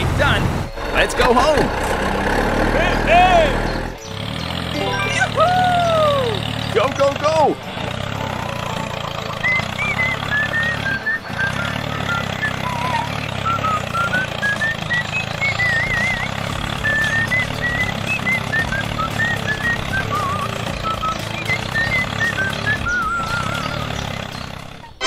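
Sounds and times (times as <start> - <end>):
toy road roller engine running: 0.0 - 25.0
high chirpy whistled notes: 2.8 - 25.0.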